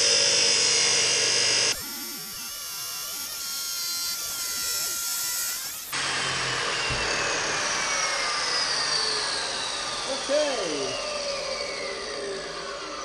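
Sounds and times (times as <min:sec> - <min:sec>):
chop saw grinding steel: 0:00.0 - 0:13.0
saw motor spinning down whine: 0:00.0 - 0:13.0.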